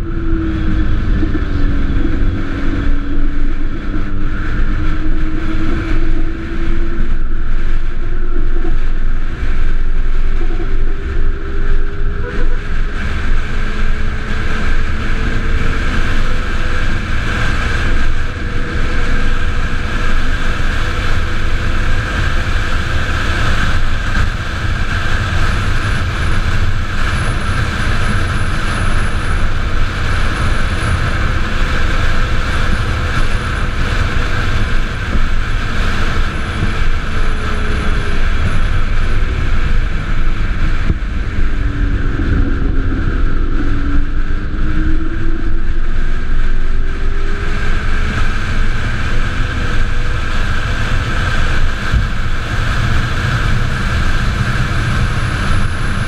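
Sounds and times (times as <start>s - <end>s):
faint whine: 0.0s - 56.0s
wind rush and road noise: 0.0s - 56.0s.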